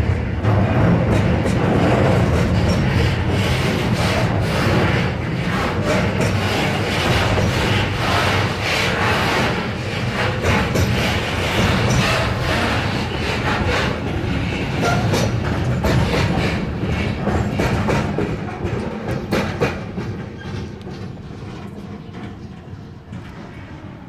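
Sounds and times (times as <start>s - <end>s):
freight train wheels clicking: 0.0s - 23.7s.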